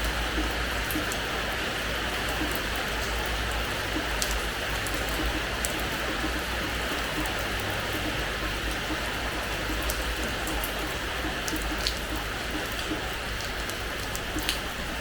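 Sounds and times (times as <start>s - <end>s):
rain on hard floor: 0.0s - 15.0s.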